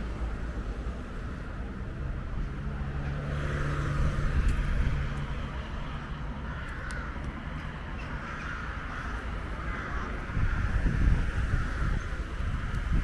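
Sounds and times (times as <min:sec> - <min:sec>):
vehicle engine hum: 0:00.0 - 0:13.0
wind rumbling on microphone: 0:00.0 - 0:13.0.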